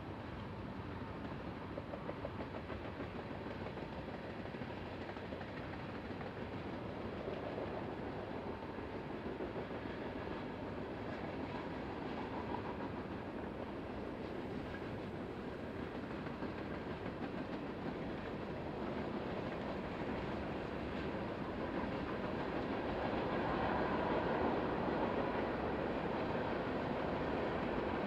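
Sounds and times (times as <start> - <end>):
freight train wheels rumbling on rail: 0.0 - 28.0.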